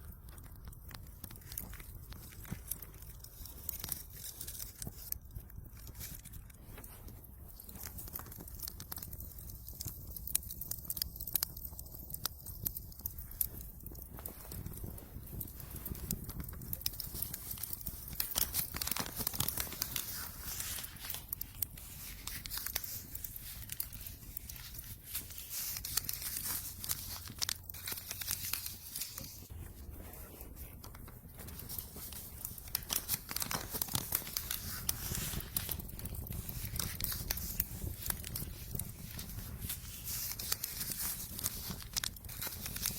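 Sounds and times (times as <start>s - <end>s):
fire crackling in fireplace: 0.0s - 42.9s.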